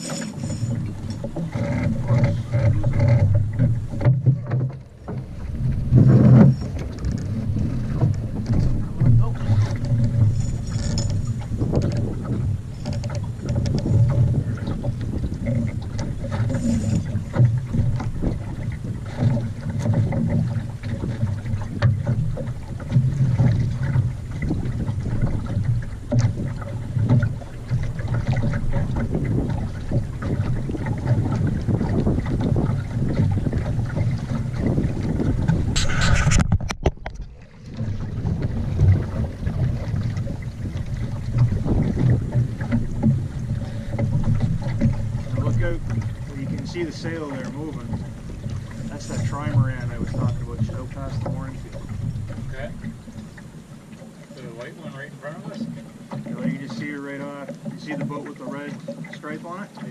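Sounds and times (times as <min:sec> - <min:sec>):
wind buffeting microphone: 0:05.2 - 0:53.3.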